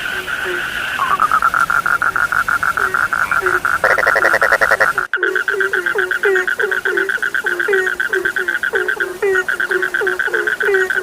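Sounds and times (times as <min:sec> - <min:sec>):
frog croaks: 0:00.0 - 0:11.0
frogs trilling: 0:00.0 - 0:11.0
loud rattling frog call: 0:00.0 - 0:11.0.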